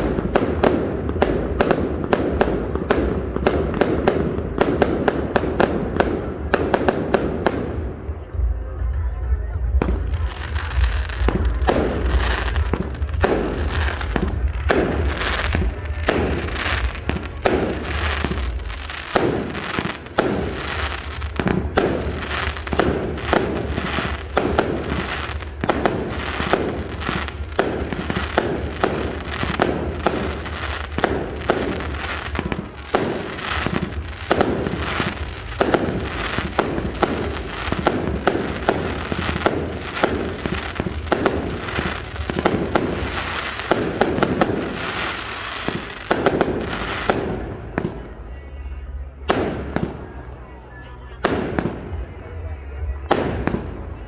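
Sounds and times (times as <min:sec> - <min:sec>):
fireworks bangs: 0:00.0 - 0:08.7, 0:09.5 - 0:48.4, 0:49.2 - 0:50.5, 0:51.2 - 0:54.0.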